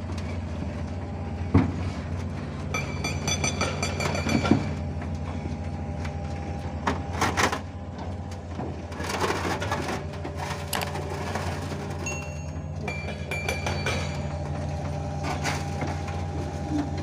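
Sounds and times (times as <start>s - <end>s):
diesel engine running: 0.0s - 17.0s
metal clanks and knocks: 0.1s - 17.0s.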